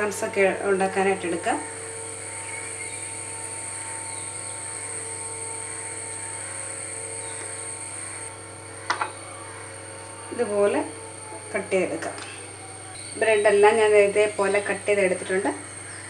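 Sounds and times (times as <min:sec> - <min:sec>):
electric motor hum with whine: 0:00.0 - 0:16.0.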